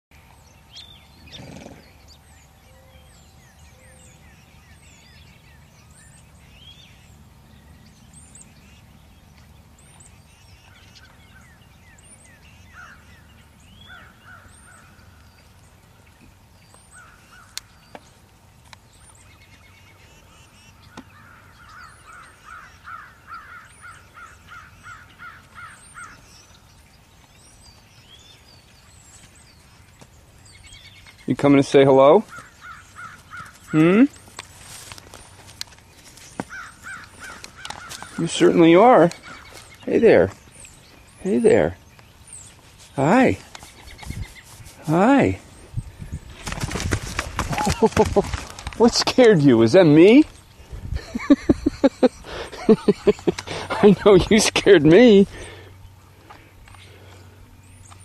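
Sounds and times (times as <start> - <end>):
birds calling: 0.1 - 58.0.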